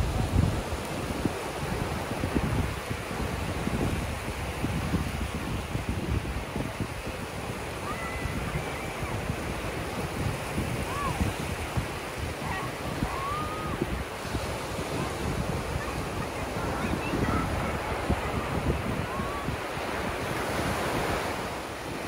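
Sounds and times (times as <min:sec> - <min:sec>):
ocean surf on beach: 0:00.0 - 0:22.0
wind buffeting microphone: 0:00.0 - 0:22.0.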